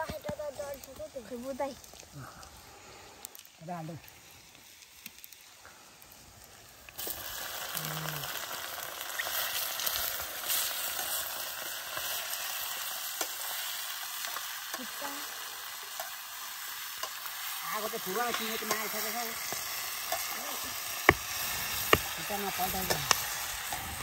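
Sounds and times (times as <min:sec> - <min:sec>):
curry sizzling in hot oil: 0:00.0 - 0:24.0.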